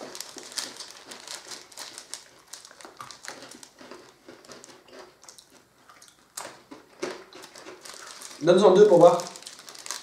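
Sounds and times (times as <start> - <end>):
people crunching pretzel sticks: 0.0 - 10.0.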